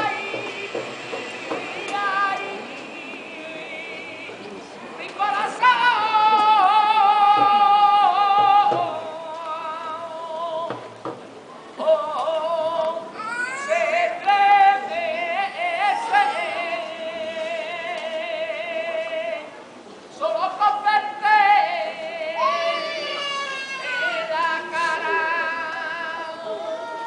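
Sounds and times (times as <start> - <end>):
person singing flamenco-style: 0.0 - 11.2, 11.8 - 19.6, 20.2 - 27.0.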